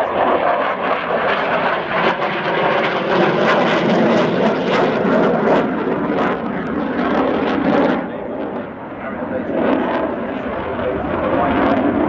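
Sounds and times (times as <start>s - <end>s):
jet engines passing overhead: 0.0s - 12.0s.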